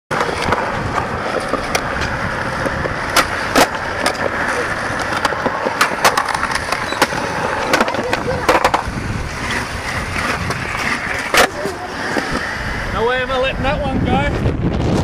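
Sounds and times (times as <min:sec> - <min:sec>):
skateboard clacking on ground: 0:00.1 - 0:12.6
skateboard wheels rolling on concrete: 0:00.1 - 0:15.0.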